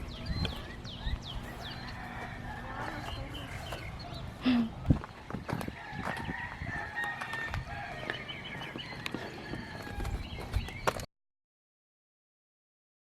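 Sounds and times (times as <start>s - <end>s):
birds chirping and clucking: 0.0s - 11.1s.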